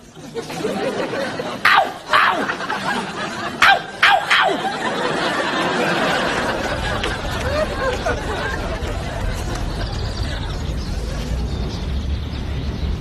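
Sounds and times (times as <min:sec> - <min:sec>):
studio audience laughing: 0:00.2 - 0:11.4.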